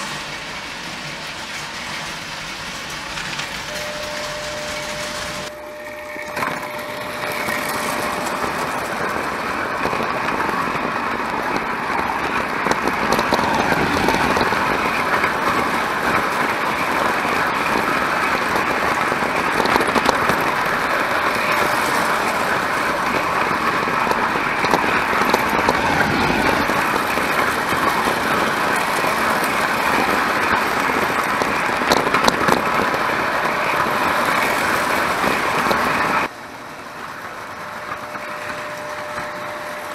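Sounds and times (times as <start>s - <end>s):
toy train motor rattling whir: 0.0s - 36.3s.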